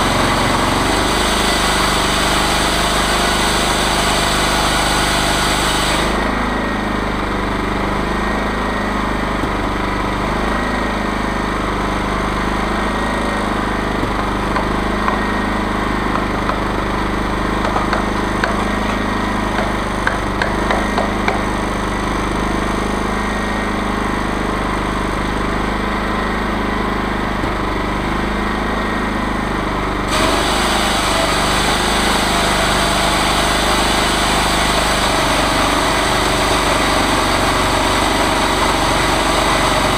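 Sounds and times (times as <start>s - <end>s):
chainsaw mill running: 0.0s - 39.9s.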